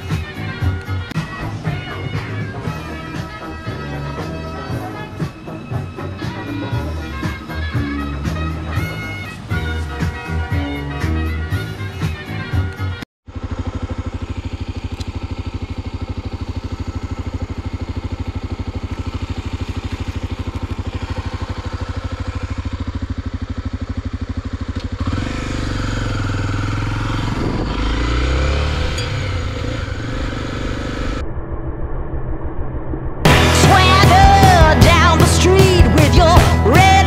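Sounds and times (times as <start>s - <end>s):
motorcycle engine idling and revving: 0.0s - 32.0s, 33.2s - 37.0s.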